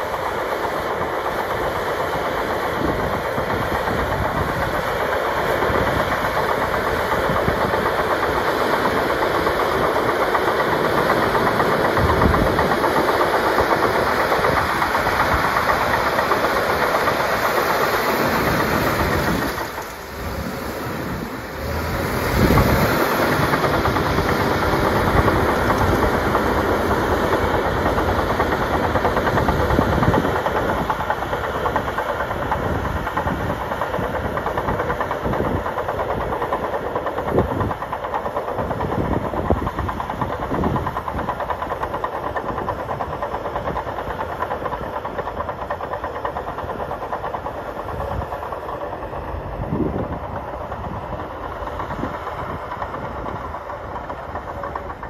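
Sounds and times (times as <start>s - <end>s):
bulldozer diesel engine under load: 0.0s - 55.0s
steel tracks clattering: 0.0s - 55.0s.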